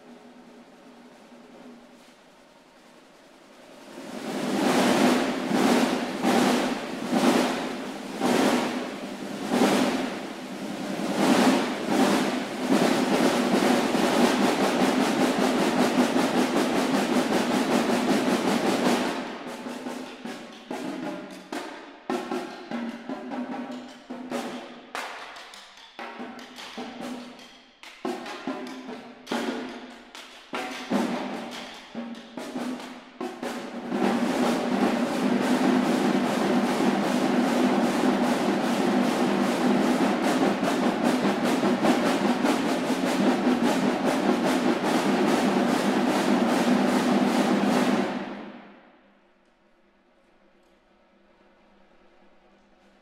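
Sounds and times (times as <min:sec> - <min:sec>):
scattered snare drum strokes: 0:00.0 - 0:48.9
snare drum rolls: 0:00.0 - 0:49.0.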